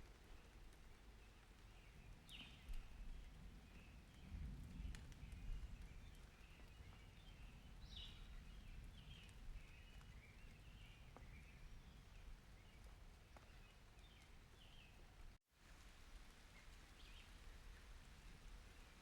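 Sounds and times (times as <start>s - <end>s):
light rain ticks: 0.0s - 19.0s.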